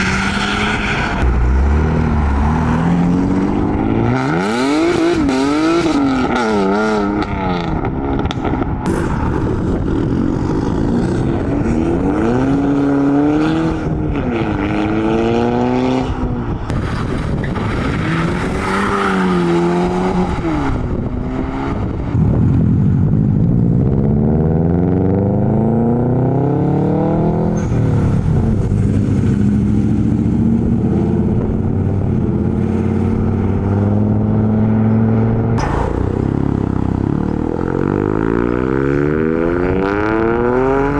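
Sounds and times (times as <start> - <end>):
car engines revving and accelerating: 0.0 - 40.9.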